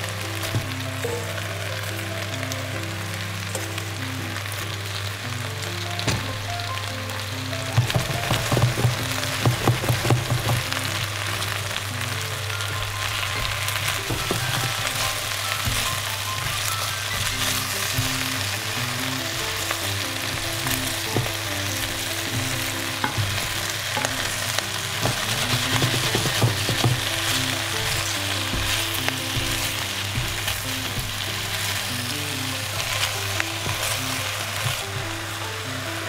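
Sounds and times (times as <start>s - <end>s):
food sizzling in a pot: 0.0s - 36.0s.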